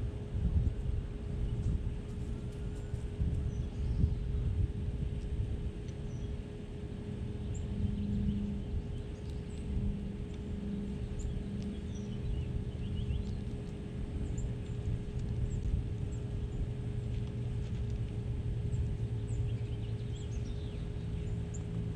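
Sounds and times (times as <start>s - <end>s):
low hum: 0.0s - 21.9s
low rumble: 0.0s - 21.9s.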